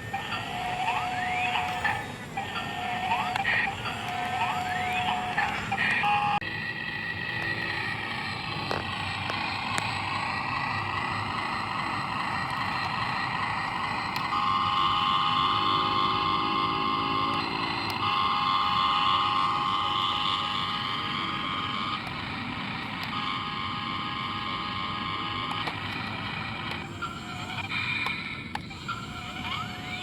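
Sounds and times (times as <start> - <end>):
model excavator motor whining: 0.0 - 30.0.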